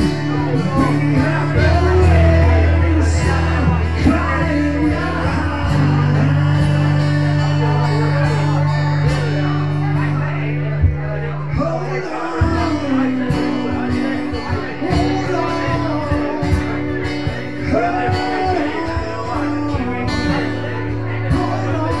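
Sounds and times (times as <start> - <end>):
crowd chatter: 0.0 - 22.0
live acoustic guitar music: 0.0 - 22.0.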